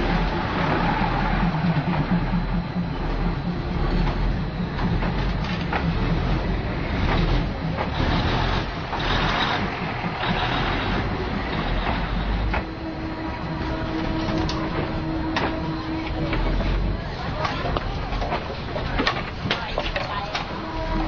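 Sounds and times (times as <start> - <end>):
train passing rumble: 0.0 - 21.0
train wheels clicking on rails: 0.0 - 21.0.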